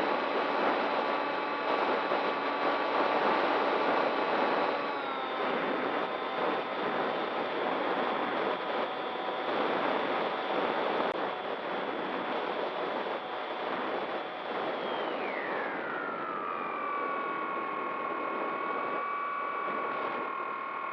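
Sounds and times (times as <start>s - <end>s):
model plane motor whining: 0.0s - 20.9s
wind noise: 0.0s - 20.9s.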